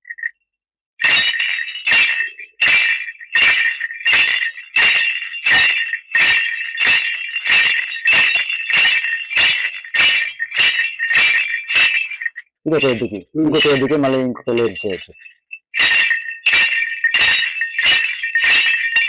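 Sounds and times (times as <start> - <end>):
bells jingling: 0.1 - 0.3, 1.0 - 19.0.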